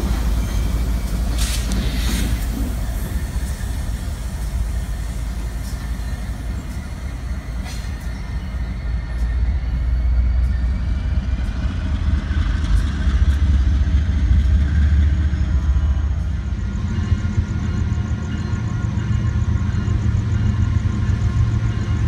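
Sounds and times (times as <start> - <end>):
freight train rumble: 0.0 - 22.0.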